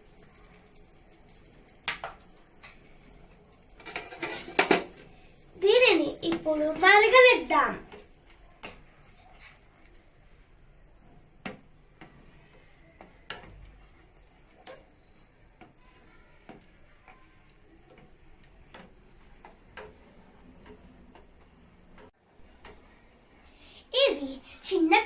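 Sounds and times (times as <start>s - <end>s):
water simmering with faint pops: 0.0s - 23.5s.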